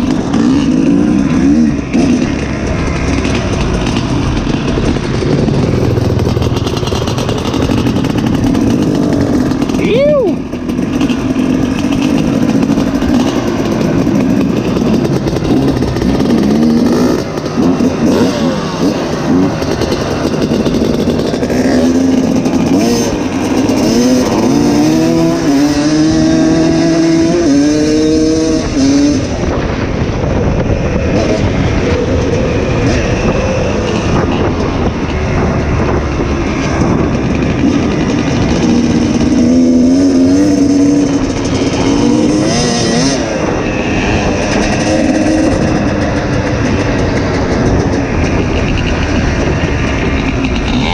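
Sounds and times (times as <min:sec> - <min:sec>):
two-stroke dirt bike revving: 0:00.0 - 0:50.9.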